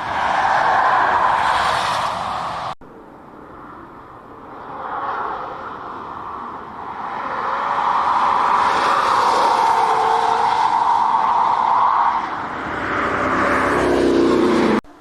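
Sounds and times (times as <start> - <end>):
car tyre roar: 0.0 - 15.0.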